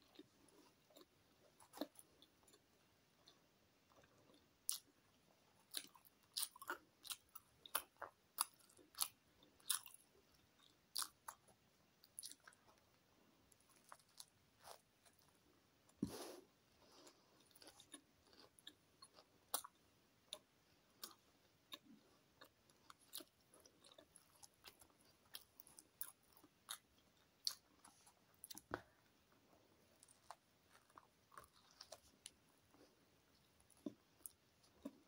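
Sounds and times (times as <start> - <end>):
chewing crusty bread: 0.0 - 35.0.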